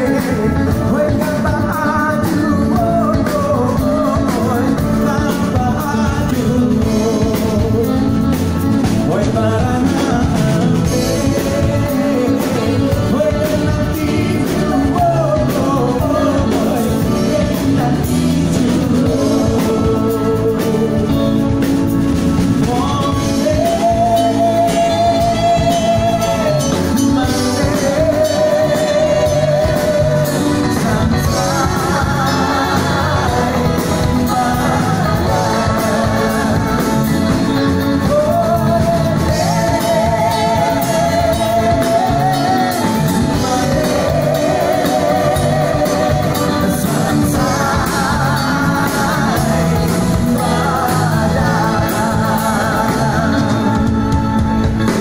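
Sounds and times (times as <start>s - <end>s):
live pop band playing: 0.0s - 55.0s
person singing with vibrato: 0.0s - 55.0s.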